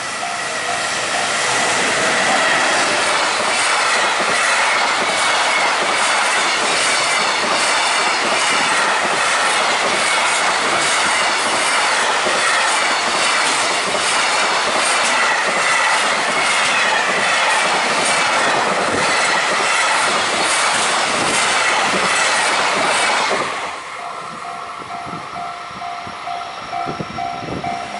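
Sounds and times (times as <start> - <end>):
freight train roaring past: 0.0 - 27.9
high wavering squeal: 0.0 - 27.9.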